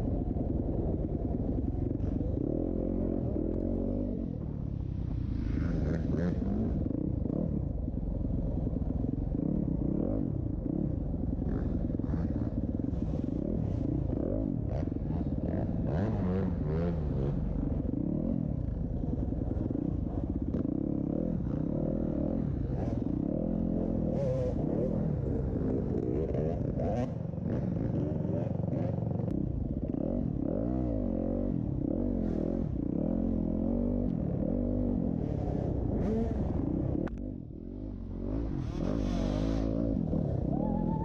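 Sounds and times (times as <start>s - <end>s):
motorcycle engines revving: 0.0s - 41.0s
steady low rumble: 0.0s - 41.0s.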